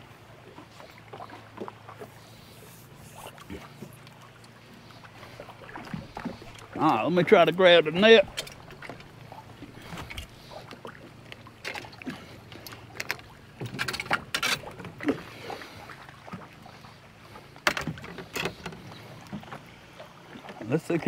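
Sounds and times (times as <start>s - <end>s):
knocks and clatter in a boat: 0.0s - 21.0s.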